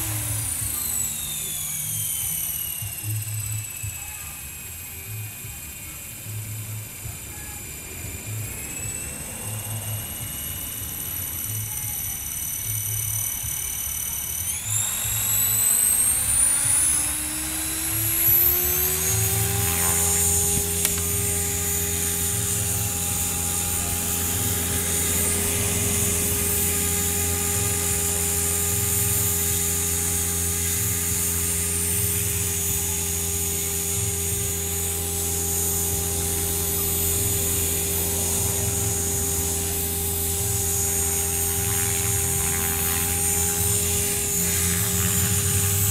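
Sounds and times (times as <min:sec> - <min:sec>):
electric motor high whine: 0:00.0 - 0:45.9
helicopter rotor hum: 0:00.0 - 0:45.9.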